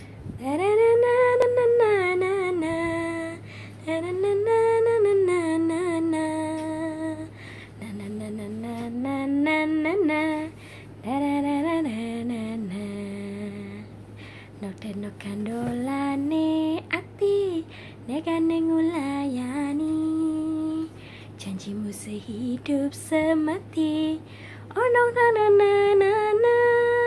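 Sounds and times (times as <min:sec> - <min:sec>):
steady low hum: 0:00.0 - 0:27.0
woman singing unaccompanied: 0:00.3 - 0:27.0.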